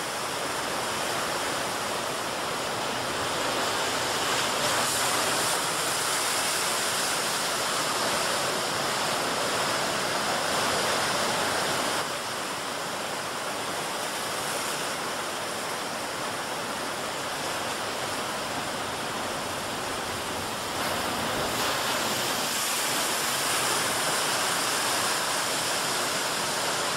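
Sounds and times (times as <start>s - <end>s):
heavy surf breaking waves: 0.0s - 26.9s.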